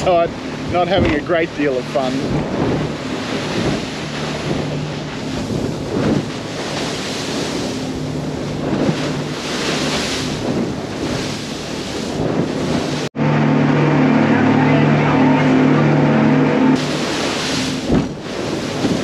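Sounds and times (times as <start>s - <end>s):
wind buffeting microphone: 0.0s - 13.1s, 16.8s - 19.0s
low boat engine drone: 0.0s - 19.0s
water rushing against hull: 0.0s - 19.0s.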